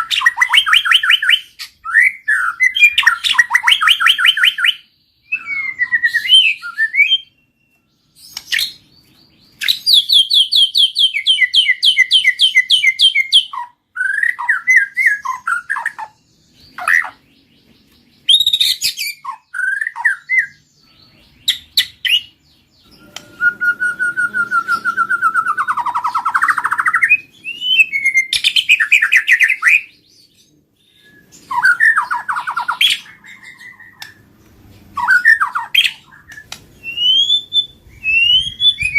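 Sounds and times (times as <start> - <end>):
songbird singing varied song: 0.0 - 38.9.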